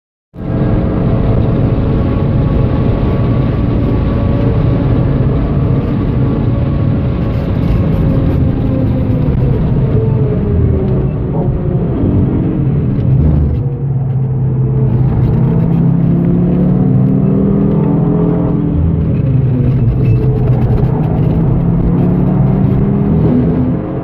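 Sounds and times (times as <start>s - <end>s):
car engine at full throttle: 0.4s - 24.0s
road and wind noise: 0.4s - 24.0s.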